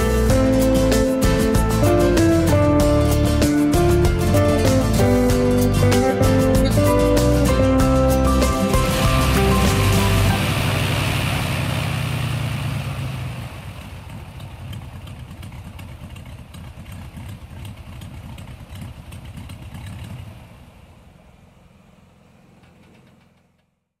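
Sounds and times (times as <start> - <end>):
engine idling: 0.0 - 23.8.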